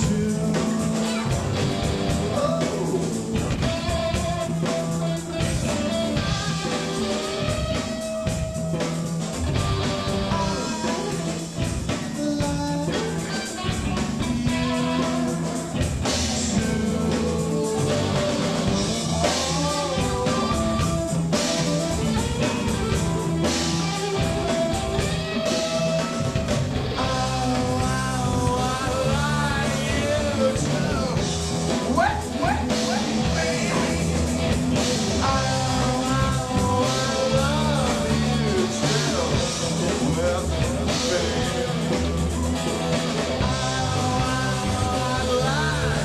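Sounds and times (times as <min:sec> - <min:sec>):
rock band playing: 0:00.0 - 0:46.0.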